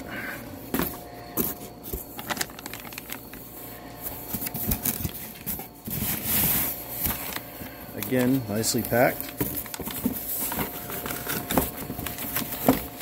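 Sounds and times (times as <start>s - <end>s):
plastic bag crinkling: 1.8s - 13.0s.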